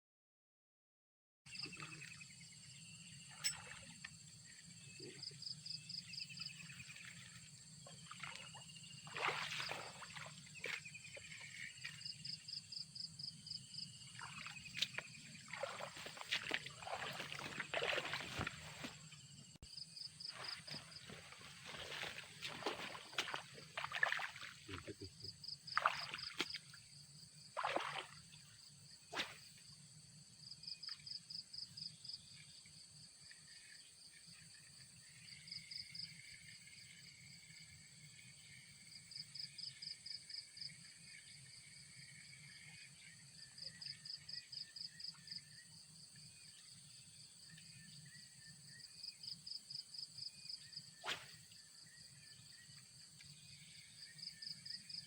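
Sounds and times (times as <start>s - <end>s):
insects chirping trills: 1.5s - 55.0s.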